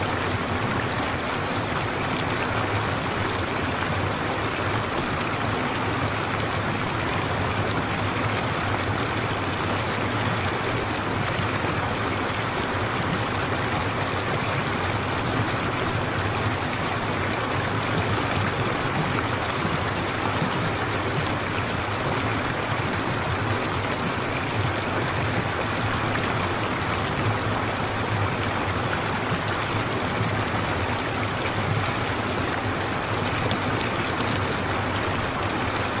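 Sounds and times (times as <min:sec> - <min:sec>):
running water rushing: 0:00.0 - 0:36.0.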